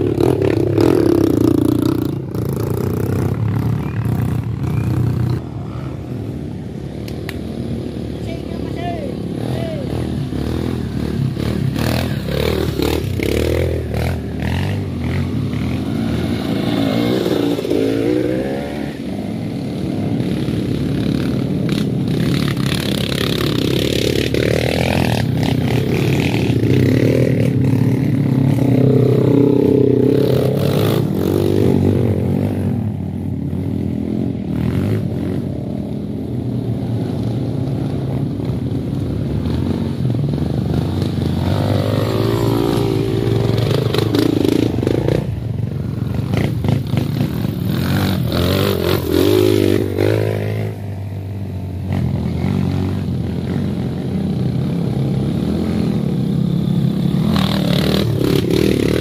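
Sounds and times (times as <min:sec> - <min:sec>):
motorcycles revving past: 0:00.0 - 0:59.0.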